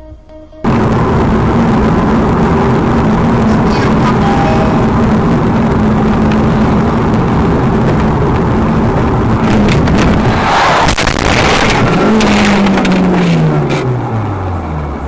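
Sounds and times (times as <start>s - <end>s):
rushing surge: 0.6s - 14.2s
car engine and road noise: 0.6s - 15.0s.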